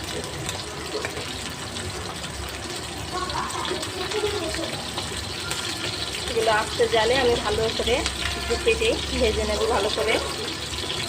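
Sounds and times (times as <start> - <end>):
fish frying in oil: 0.0 - 11.0.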